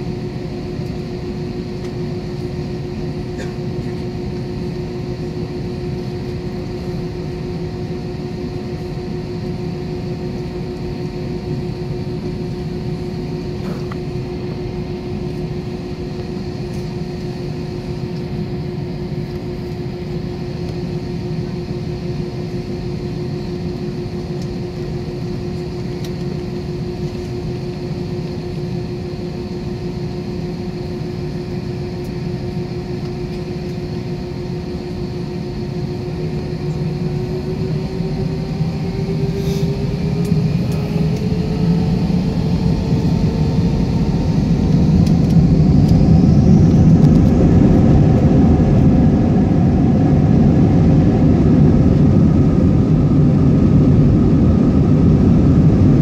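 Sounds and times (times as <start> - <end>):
jet engines whining in cabin: 0.0 - 56.0.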